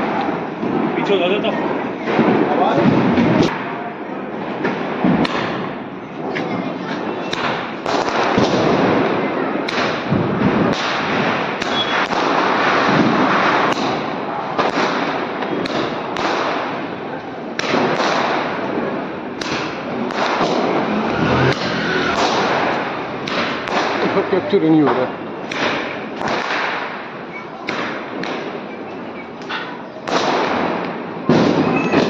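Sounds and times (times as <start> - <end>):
sharp firework cracks: 2.0 - 6.4, 7.0 - 28.7, 29.4 - 32.0.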